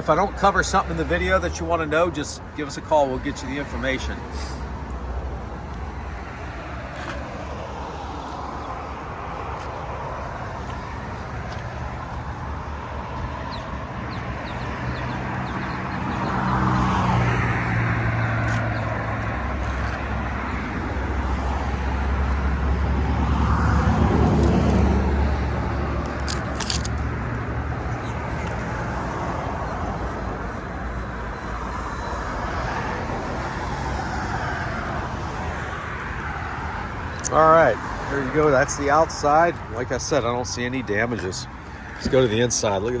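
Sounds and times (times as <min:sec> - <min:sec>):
traffic noise: 0:00.0 - 0:43.0
vehicles passing: 0:00.0 - 0:43.0.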